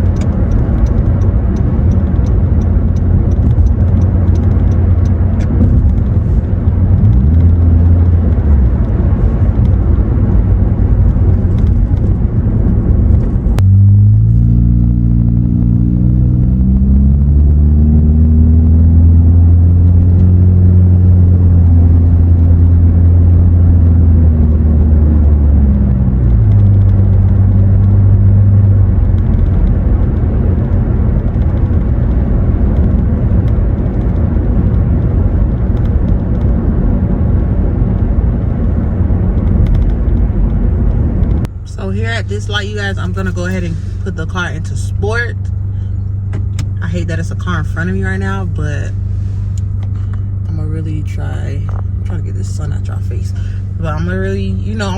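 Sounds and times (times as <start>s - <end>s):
car exhaust drone: 0.0s - 54.9s
road noise: 0.0s - 54.9s.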